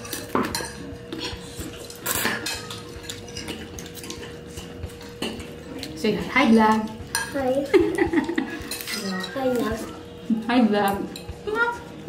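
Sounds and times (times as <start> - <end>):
forks clinking on ceramic plates: 0.0 - 9.8.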